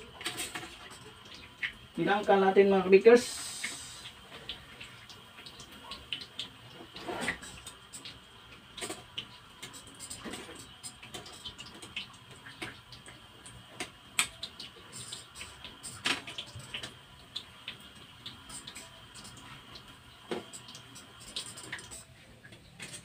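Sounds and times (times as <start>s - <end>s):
dough frying in hot oil: 0.0s - 23.0s.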